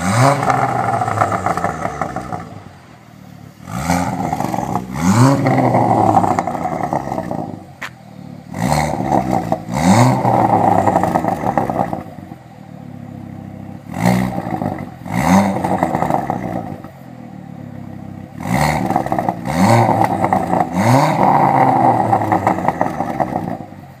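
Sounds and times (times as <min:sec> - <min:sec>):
car engine revving and idling: 0:00.0 - 0:24.0
exhaust crack: 0:00.0 - 0:24.0.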